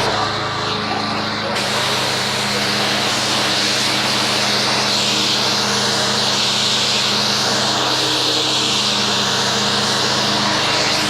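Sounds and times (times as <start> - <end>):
pressure washer motor hum: 0.0 - 11.0.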